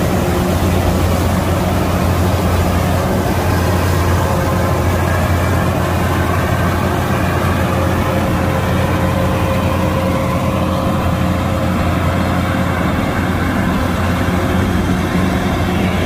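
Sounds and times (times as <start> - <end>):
combine harvester engine humming: 0.0 - 16.0
steady higher machine tone: 0.0 - 16.0.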